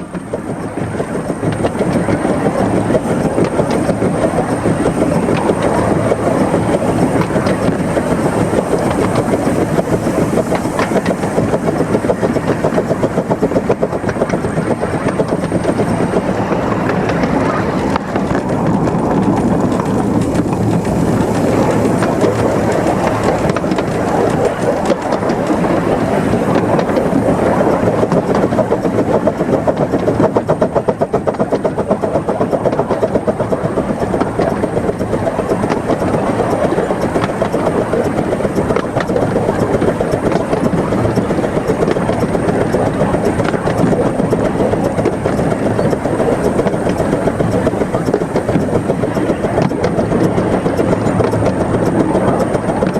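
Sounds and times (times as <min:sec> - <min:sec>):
steam locomotive rhythmic beat: 0:00.0 - 0:52.9
wheel and rail noise: 0:00.0 - 0:52.9.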